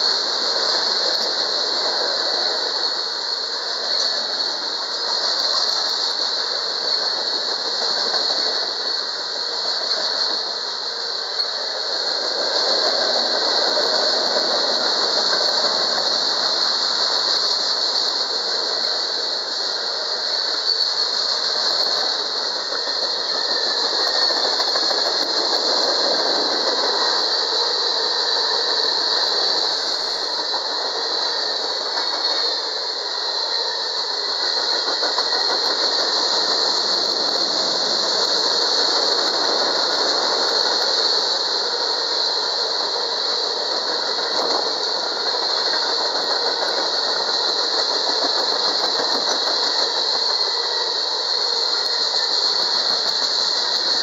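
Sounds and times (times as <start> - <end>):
constant high hiss: 0.0 - 54.0
steel wheels rumbling on rails: 0.0 - 54.0.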